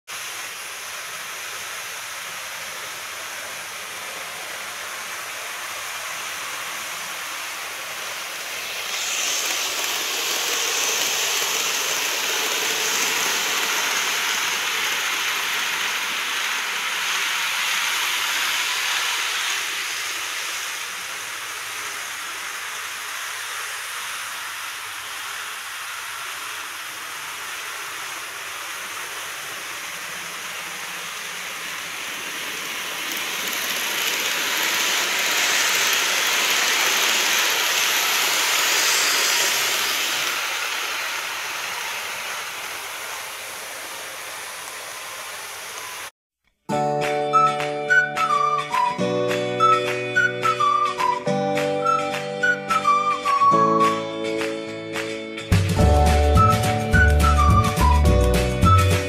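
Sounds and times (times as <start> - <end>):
model trains whirring: 0.1 - 46.1, 49.6 - 54.0, 55.5 - 59.0.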